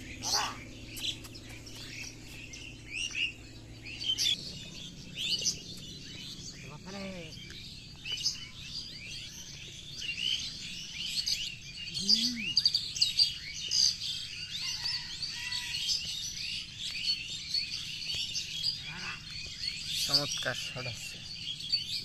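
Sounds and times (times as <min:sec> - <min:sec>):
low rising and falling call: 0:00.0 - 0:22.0
small birds chirping: 0:00.0 - 0:22.0.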